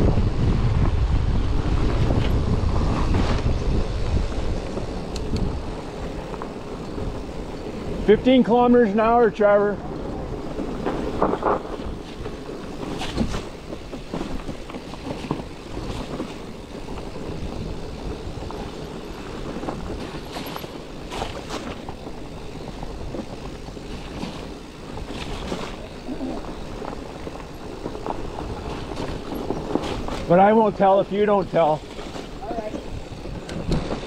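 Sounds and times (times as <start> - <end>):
wind on microphone: 0.0 - 30.3
bicycle rattling over bumps: 0.0 - 34.0
bicycle tyres rolling on dirt: 0.0 - 34.0.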